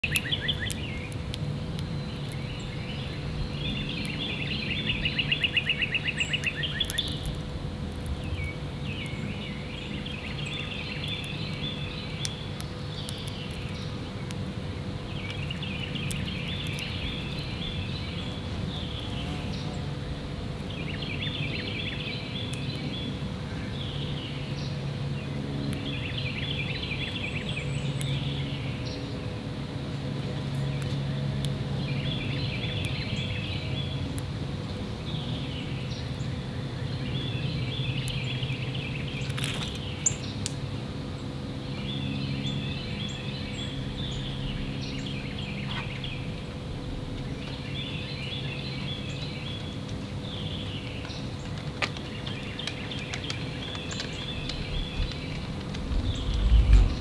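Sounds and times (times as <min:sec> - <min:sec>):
songbirds singing: 0:00.0 - 0:57.0
steady low hum: 0:00.0 - 0:57.0.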